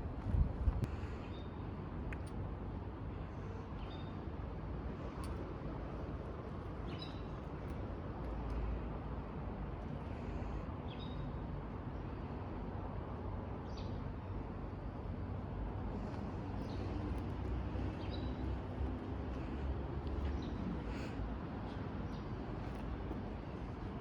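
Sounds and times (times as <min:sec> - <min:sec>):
low street rumble: 0:00.0 - 0:24.0.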